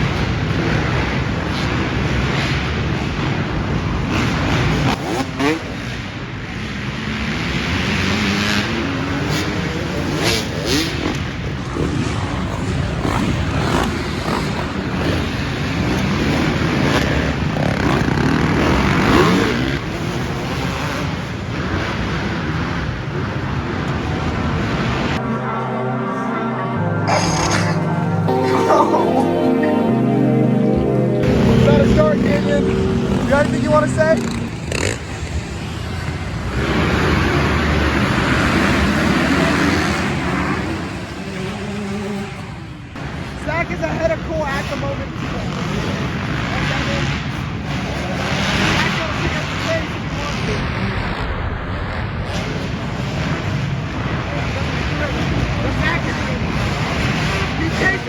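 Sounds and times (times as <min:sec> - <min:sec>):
dirt bike engines revving: 0:00.0 - 0:26.3, 0:28.2 - 0:58.0.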